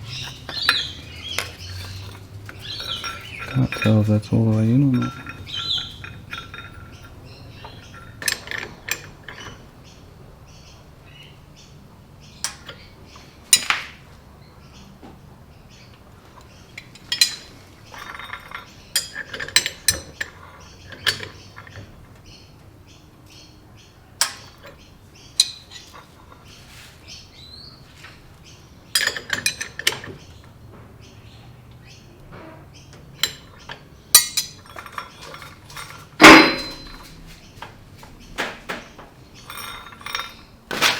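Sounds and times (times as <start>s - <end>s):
metal tools clinking: 0.0s - 14.1s, 15.7s - 22.4s, 24.1s - 40.9s
birds chirping: 0.0s - 40.9s.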